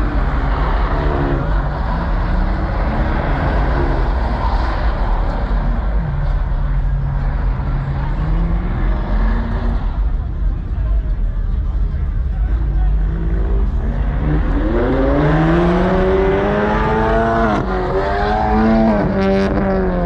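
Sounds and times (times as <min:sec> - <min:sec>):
car engine revving: 0:00.0 - 0:10.7, 0:12.7 - 0:20.0.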